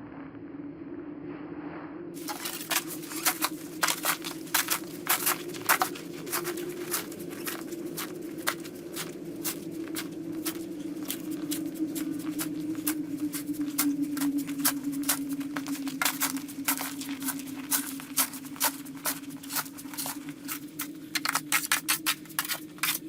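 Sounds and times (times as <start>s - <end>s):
steady low hum: 0.0s - 23.0s
snow shovel scraping crunches: 2.2s - 12.1s, 14.1s - 23.0s.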